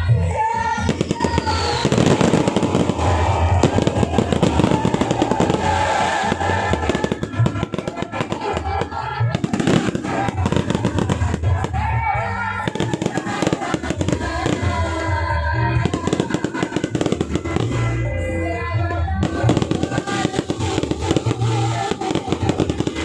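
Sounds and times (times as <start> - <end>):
music playing: 0.0 - 23.0
fireworks bangs and crackling: 0.4 - 23.0.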